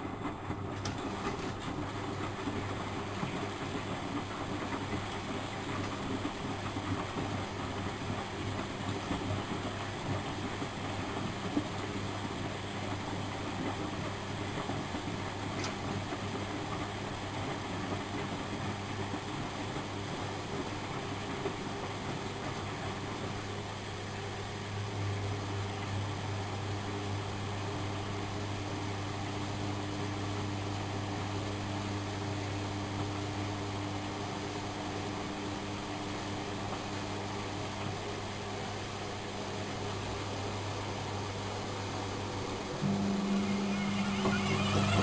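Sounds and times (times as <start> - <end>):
washing machine running: 0.0 - 45.0.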